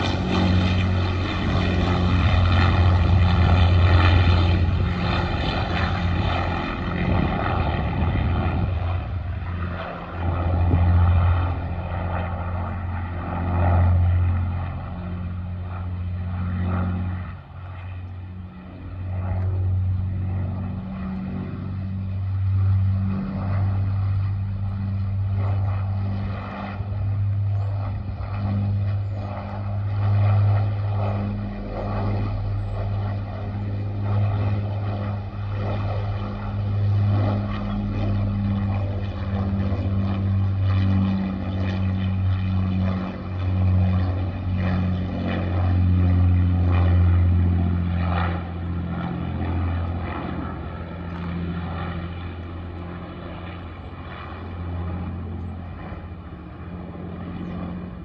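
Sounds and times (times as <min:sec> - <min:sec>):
propeller aircraft engines drone: 0:00.0 - 0:58.0.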